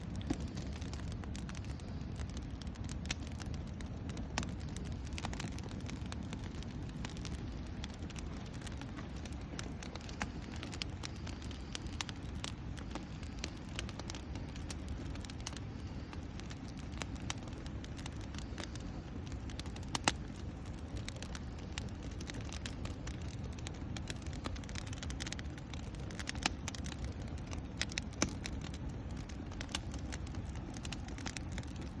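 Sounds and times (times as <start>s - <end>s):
campfire low noise: 0.0s - 32.0s
fire crackles and snaps: 0.0s - 32.0s.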